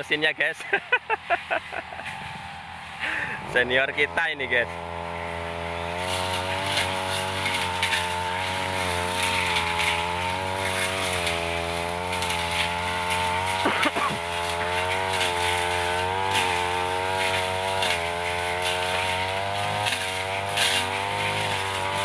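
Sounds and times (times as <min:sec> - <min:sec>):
brush cutter engine running: 0:00.0 - 0:22.0.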